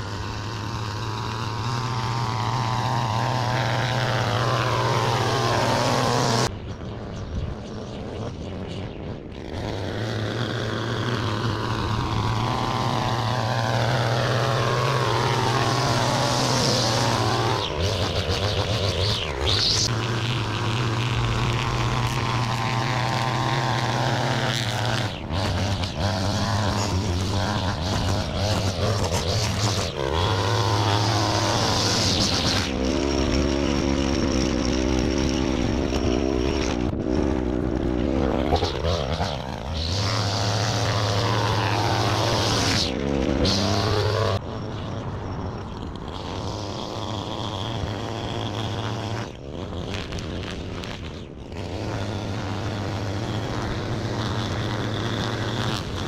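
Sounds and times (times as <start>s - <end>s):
string trimmer engine running: 0.0s - 56.0s.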